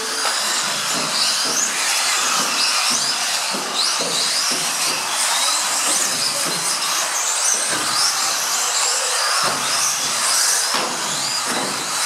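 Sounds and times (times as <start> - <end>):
rc buggy motors whining: 0.0 - 12.0.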